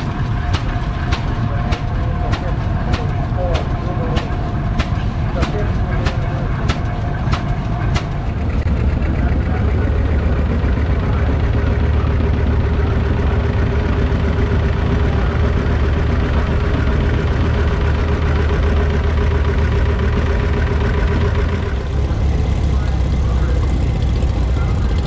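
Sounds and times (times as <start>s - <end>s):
tractors running: 0.0s - 25.0s.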